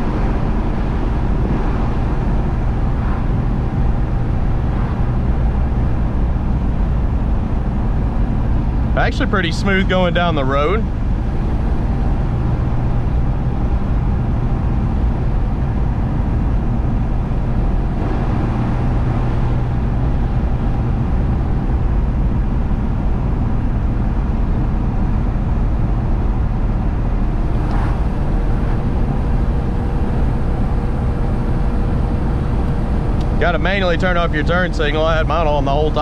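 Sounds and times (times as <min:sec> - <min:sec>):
road noise: 0:00.0 - 0:36.0
truck engine running steadily: 0:00.0 - 0:36.0.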